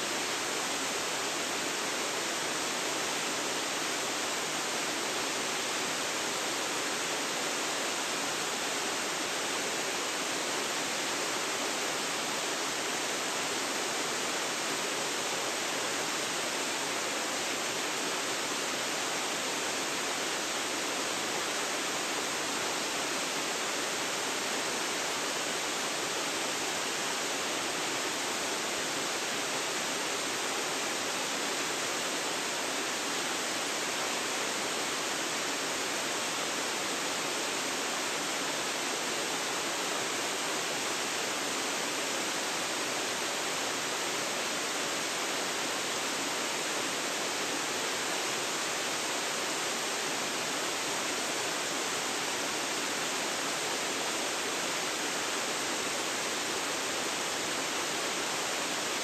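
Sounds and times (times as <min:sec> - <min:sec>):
waterfall pouring and splashing: 0:00.0 - 0:59.0.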